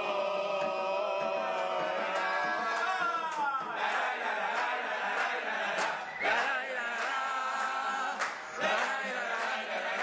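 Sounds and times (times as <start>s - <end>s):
crowd chanting: 0.0s - 10.0s.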